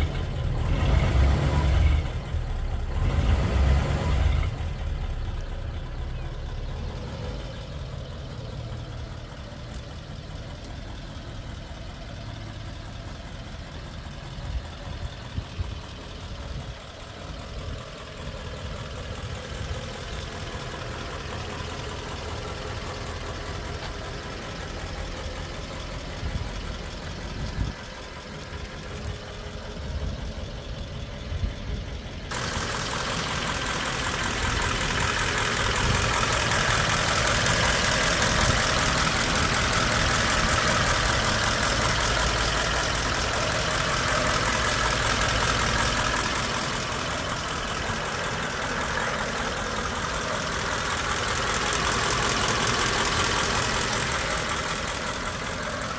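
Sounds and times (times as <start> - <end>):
pickup engine idling: 0.0 - 55.9.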